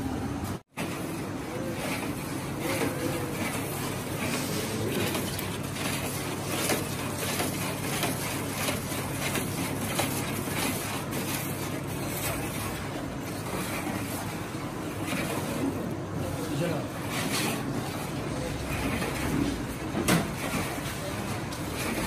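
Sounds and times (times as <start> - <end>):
metal paddle scraping steel pot: 1.5 - 20.8.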